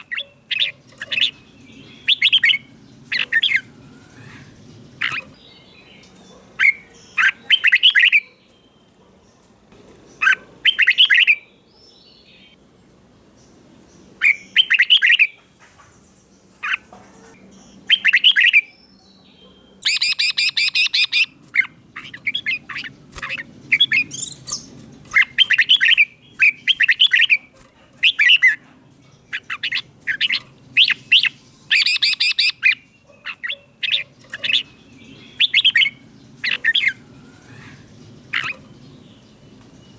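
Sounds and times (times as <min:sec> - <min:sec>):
bulbul singing whistled phrases: 0:00.0 - 0:08.9, 0:10.2 - 0:12.6, 0:14.2 - 0:15.4, 0:17.6 - 0:28.6, 0:29.3 - 0:38.7.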